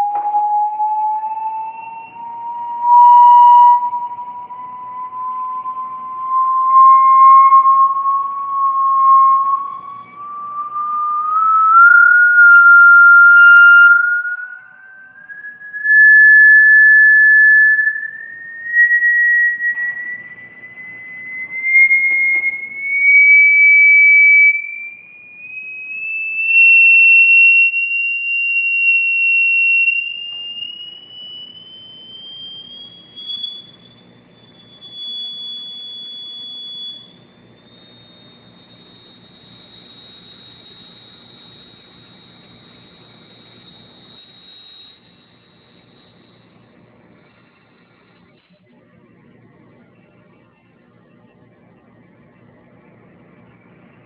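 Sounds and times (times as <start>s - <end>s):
electronic test tone rising: 0.0s - 54.0s.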